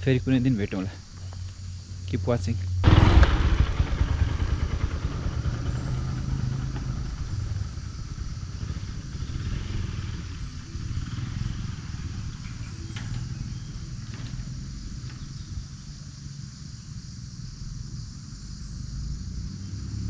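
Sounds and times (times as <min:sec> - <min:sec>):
motorcycle engine running: 0:02.7 - 0:19.6.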